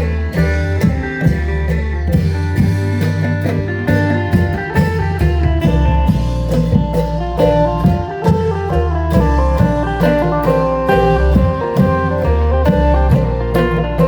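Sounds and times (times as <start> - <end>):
bass line: 0.0 - 14.0
drum kit beat: 0.0 - 14.0.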